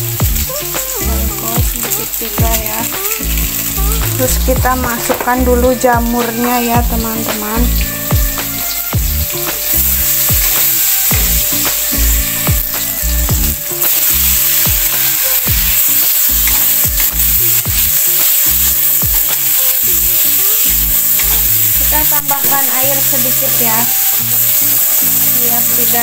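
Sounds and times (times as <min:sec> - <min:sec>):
background music with beat: 0:00.0 - 0:23.0
mushrooms sizzling in oil: 0:00.0 - 0:26.0.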